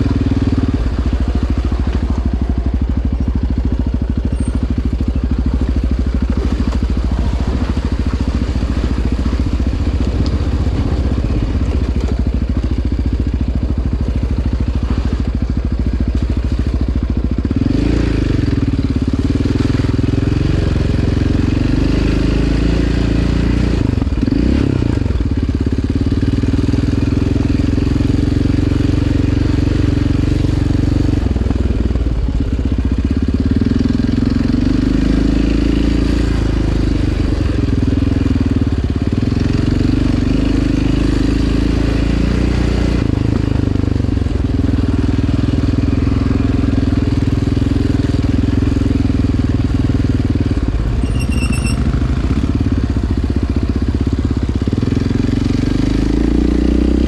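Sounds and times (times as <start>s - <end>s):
atv engine running hard: 0.0s - 57.0s.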